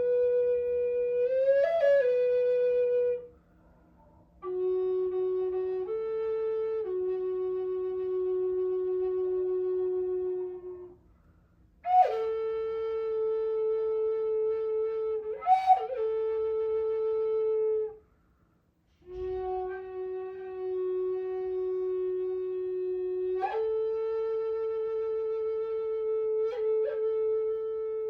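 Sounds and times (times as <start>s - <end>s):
flute-like wind instrument: 0.0s - 3.4s, 4.0s - 11.0s, 11.8s - 18.0s, 19.0s - 28.0s.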